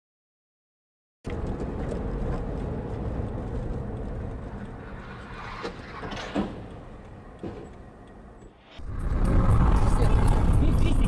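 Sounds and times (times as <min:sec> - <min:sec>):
car engine and road noise: 0:01.2 - 0:11.0.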